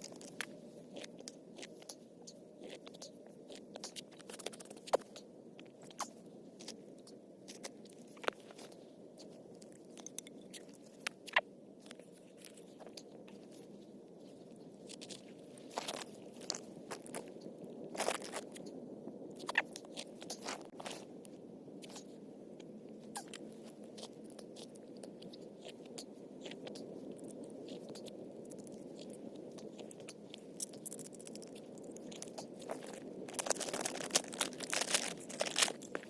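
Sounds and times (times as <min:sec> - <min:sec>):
crunching and clicks: 0:00.0 - 0:36.0.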